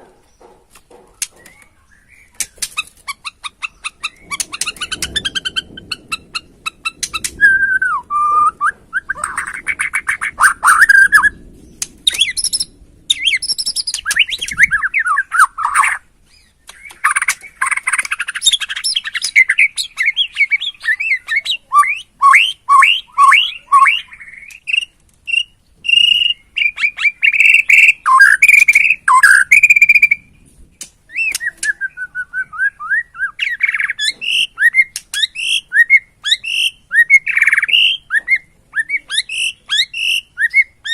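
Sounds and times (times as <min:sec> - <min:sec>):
songbird singing whistled trills: 0:01.2 - 0:30.4, 0:31.1 - 0:40.9.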